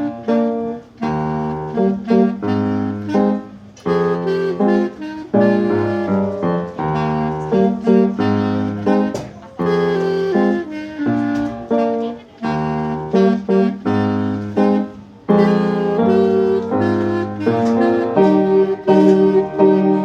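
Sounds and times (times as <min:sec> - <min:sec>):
piano accompaniment: 0:00.0 - 0:20.0
solo wind instrument melody: 0:00.0 - 0:20.0.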